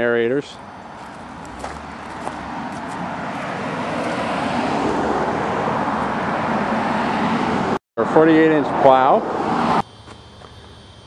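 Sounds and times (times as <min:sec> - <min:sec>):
outdoor rushing noise: 0:00.3 - 0:09.9.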